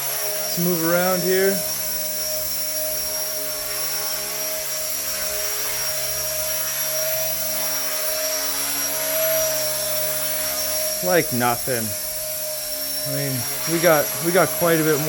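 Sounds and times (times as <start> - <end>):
toy helicopter motor whine: 0.0 - 15.0.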